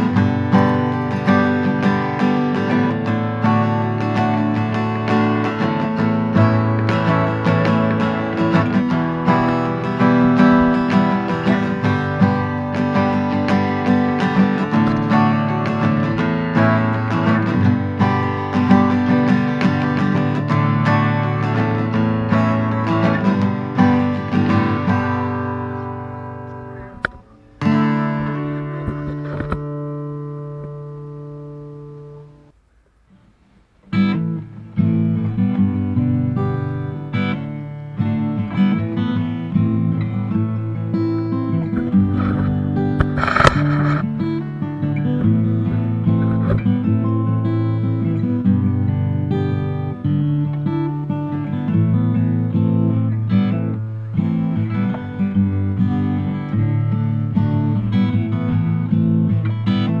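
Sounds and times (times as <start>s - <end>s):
guitar chord ringing: 0.0s - 32.6s, 33.9s - 60.0s
strummed guitar: 0.0s - 60.0s.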